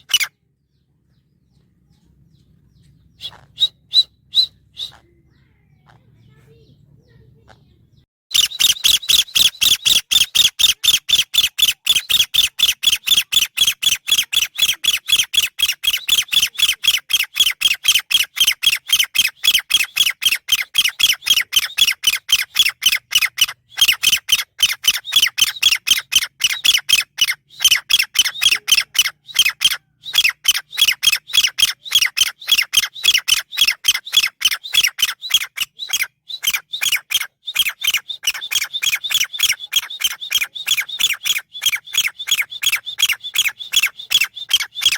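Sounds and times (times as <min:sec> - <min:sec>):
francolin calling: 0:08.3 - 0:44.9.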